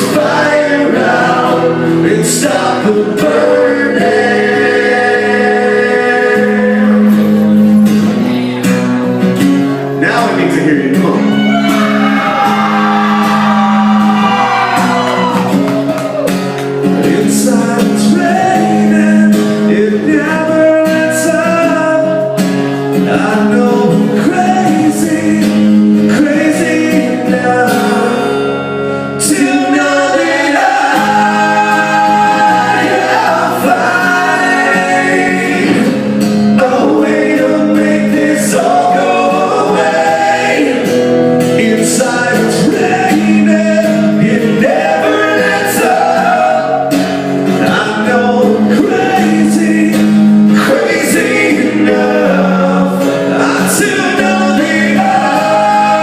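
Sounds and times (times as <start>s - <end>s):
crowd singing along: 0.0s - 8.4s, 11.4s - 56.0s
acoustic guitar strumming: 0.0s - 56.0s.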